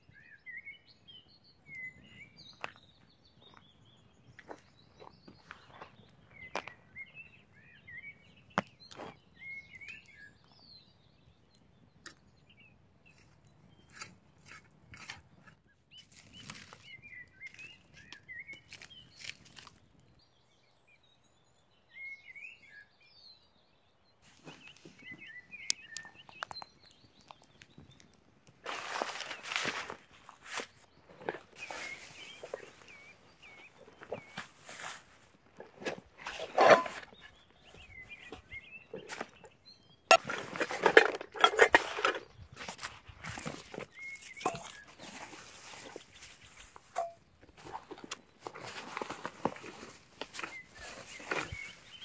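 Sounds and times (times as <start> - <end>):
bird chirping: 0.0 - 52.0.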